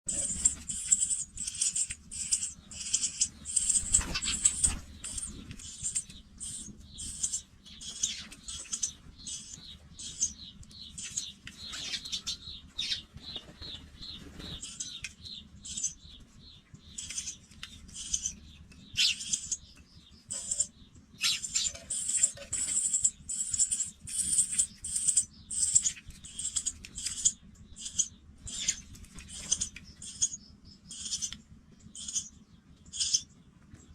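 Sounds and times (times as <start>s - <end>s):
nestlings cheeping: 0.1s - 33.8s.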